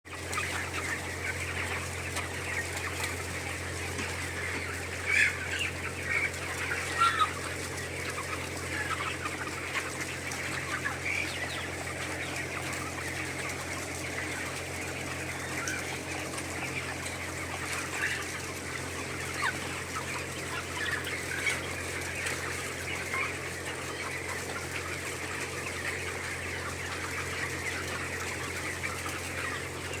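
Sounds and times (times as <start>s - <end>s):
chicks peeping: 0.1s - 30.0s.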